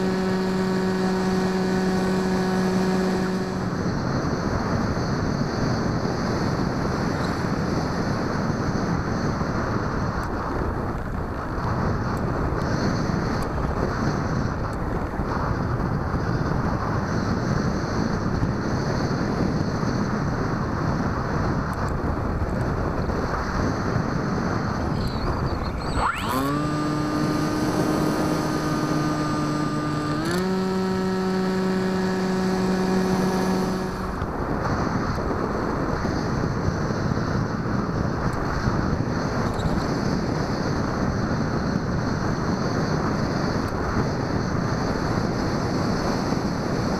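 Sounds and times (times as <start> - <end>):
electric motor and propeller hum: 0.0 - 46.9
wind rushing over microphone: 0.0 - 46.9.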